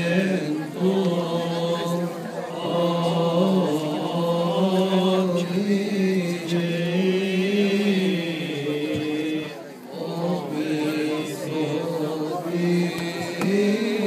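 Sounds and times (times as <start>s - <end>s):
congregation chanting a hymn: 0.0s - 14.0s.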